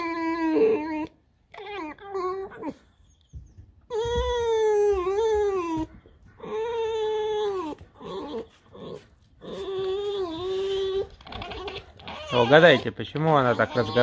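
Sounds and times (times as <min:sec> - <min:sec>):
fox squeaking: 0:00.0 - 0:14.0
fox whining: 0:00.0 - 0:14.0.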